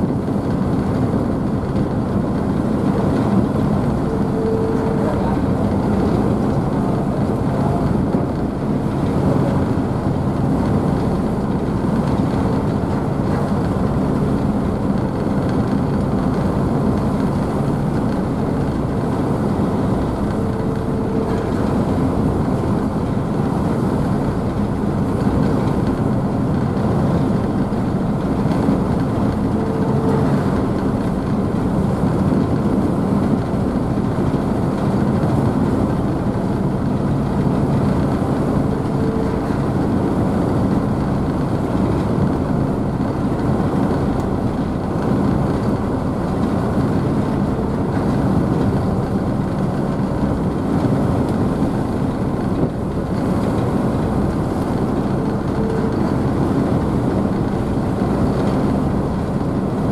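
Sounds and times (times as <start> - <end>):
ship engines rumbling: 0.0 - 59.9.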